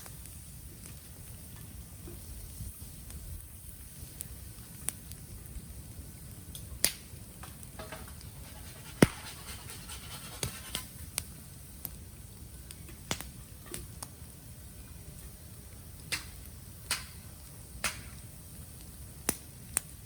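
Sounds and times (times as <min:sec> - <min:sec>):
bamboo popping and crackling in fire: 0:00.0 - 0:20.0.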